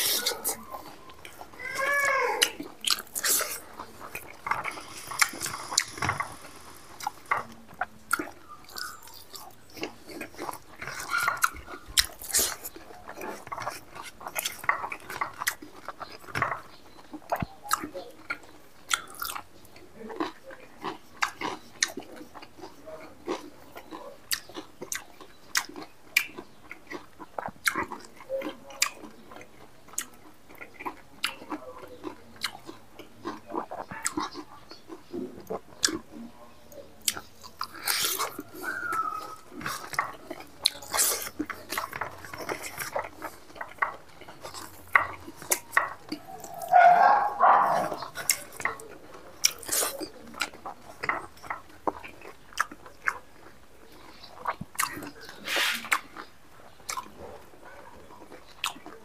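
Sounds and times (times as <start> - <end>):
man chewing and lip-smacking: 0.0 - 1.6, 2.4 - 59.0.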